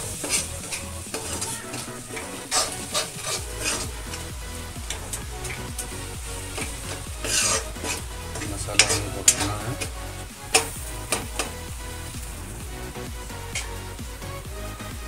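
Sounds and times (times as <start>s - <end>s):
metal ladle scraping a pan: 0.0s - 14.0s
masala sizzling in a pan: 0.0s - 15.0s.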